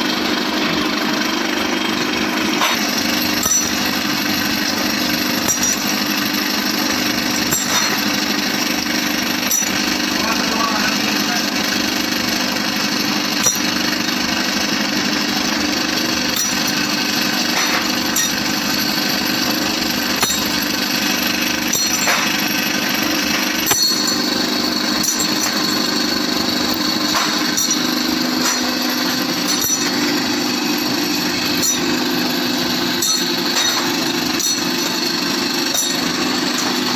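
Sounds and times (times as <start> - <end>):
workshop machinery running: 0.0 - 36.9.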